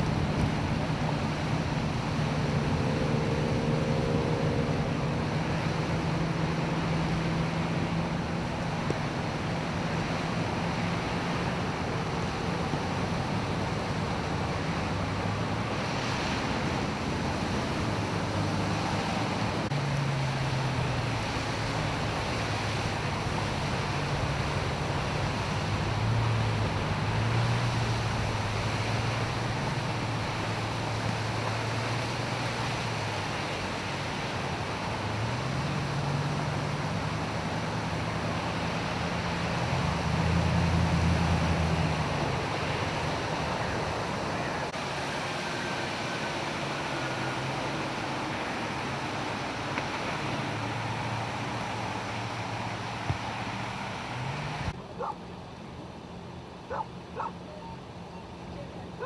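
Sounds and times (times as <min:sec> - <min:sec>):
floodwater rushing: 0:00.0 - 0:59.0
vehicle engines humming: 0:00.0 - 0:59.0.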